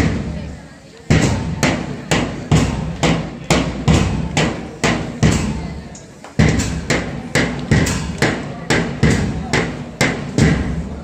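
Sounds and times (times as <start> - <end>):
drum beaten in march rhythm: 1.1 - 5.6, 6.4 - 10.9.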